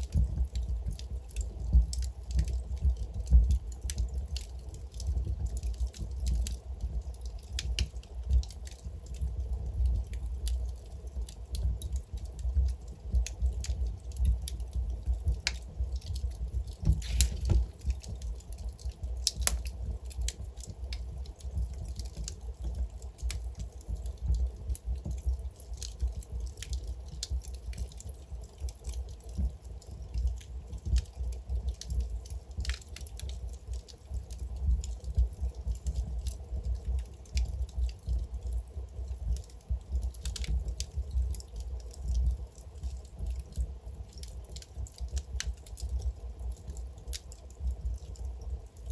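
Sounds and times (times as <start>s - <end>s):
logs crackling and popping: 0.0s - 48.9s
low rumble of flames: 0.0s - 48.9s.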